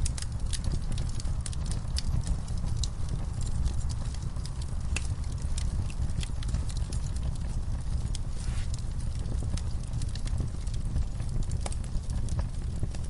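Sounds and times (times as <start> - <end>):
campfire crackling and popping: 0.0 - 13.0
low steady rumble: 0.0 - 13.0.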